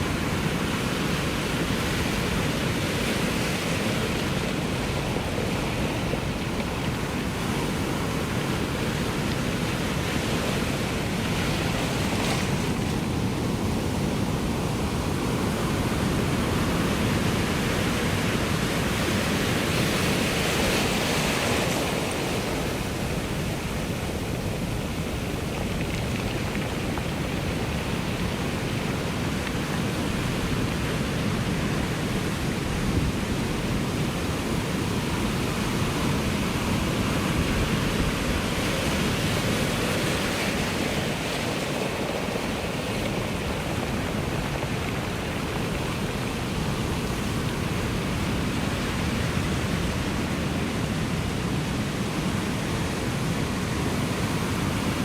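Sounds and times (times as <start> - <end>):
ocean surf washing on shore: 0.0 - 55.0.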